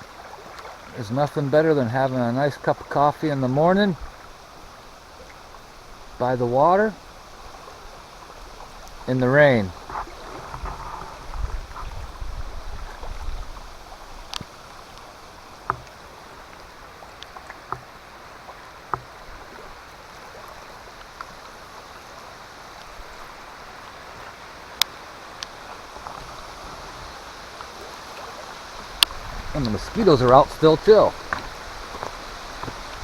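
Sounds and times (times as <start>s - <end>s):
light rain falling: 0.0s - 33.0s.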